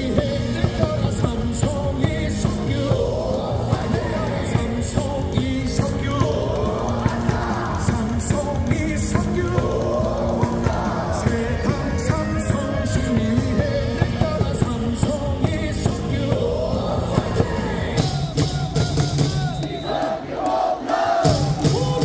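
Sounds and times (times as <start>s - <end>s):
rock music over loudspeakers: 0.0s - 19.8s, 21.2s - 22.0s
singing and yelling: 0.0s - 22.0s.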